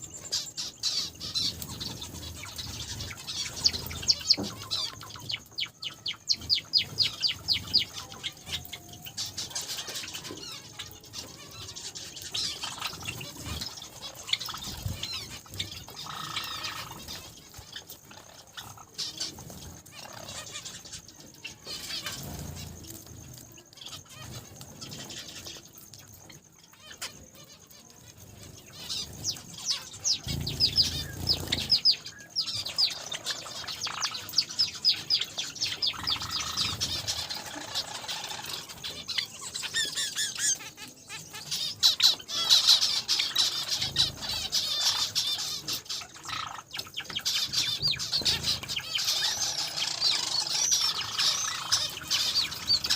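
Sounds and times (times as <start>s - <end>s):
finches chirping: 0.0s - 52.9s
wings fluttering: 0.0s - 52.9s.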